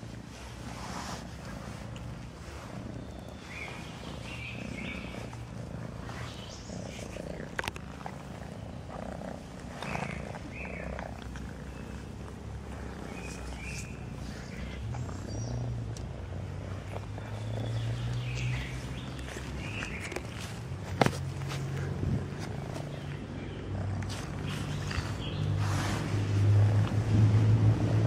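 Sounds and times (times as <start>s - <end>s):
cat purring: 0.0s - 27.1s.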